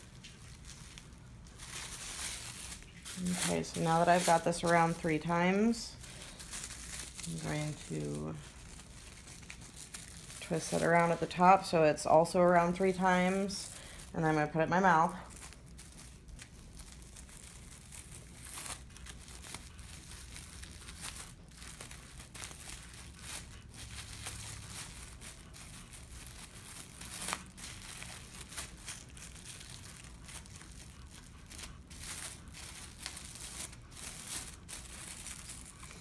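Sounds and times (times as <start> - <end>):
plastic wrap crinkling: 0.0 - 36.0.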